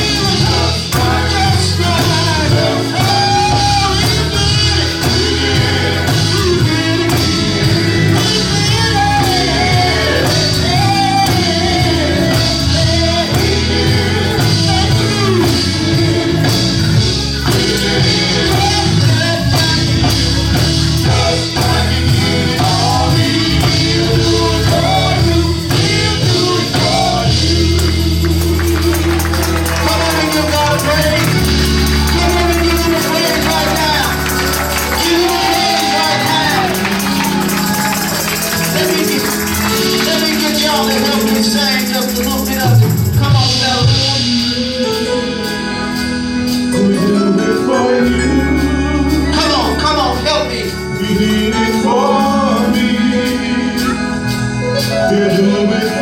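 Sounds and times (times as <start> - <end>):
band with guitar and bass: 0.0 - 56.0
worship singing: 0.0 - 56.0.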